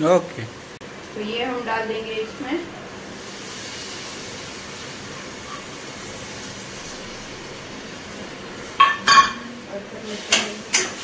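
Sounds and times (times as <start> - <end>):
kitchen background hiss: 0.0 - 11.0.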